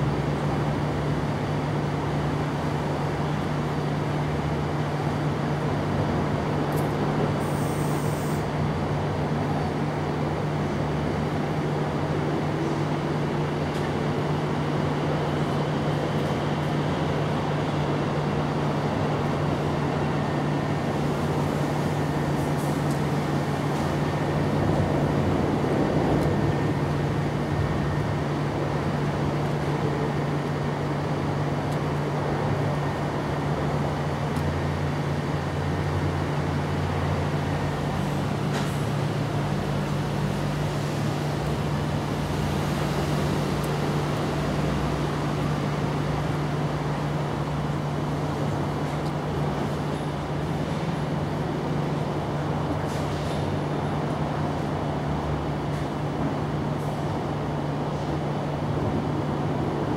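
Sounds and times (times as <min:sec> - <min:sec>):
constant wash of noise: 0:00.0 - 0:59.9.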